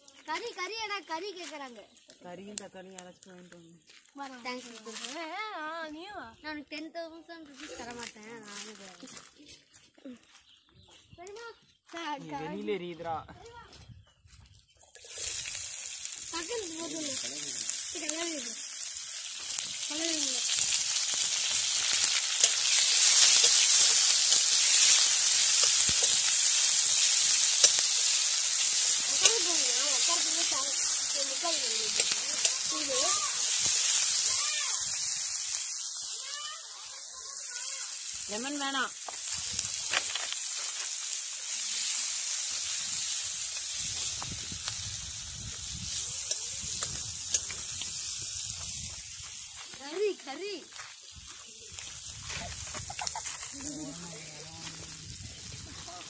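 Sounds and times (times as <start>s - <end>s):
shallots sizzling in hot oil: 0.0s - 6.9s, 7.6s - 9.3s, 14.8s - 56.0s.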